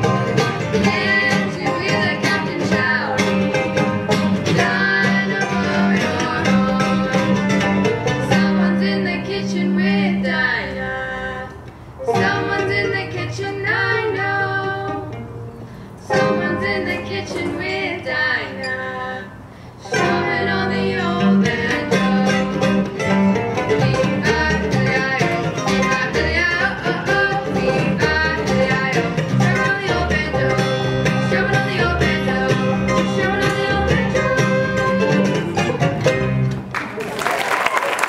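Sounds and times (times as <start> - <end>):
fiddle: 0.0 - 36.6
acoustic guitar: 0.0 - 36.7
mandolin: 0.0 - 36.8
upright bass: 0.0 - 36.8.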